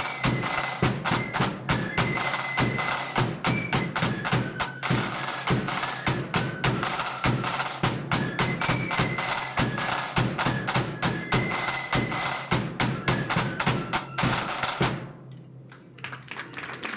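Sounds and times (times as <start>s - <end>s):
flute melody: 0.0s - 15.0s
snare and bass drums: 0.0s - 15.2s.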